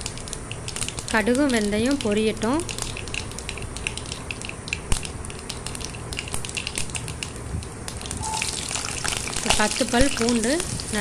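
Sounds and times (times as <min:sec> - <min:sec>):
oil sizzling: 0:00.0 - 0:11.0
seeds popping in hot oil: 0:00.0 - 0:11.0.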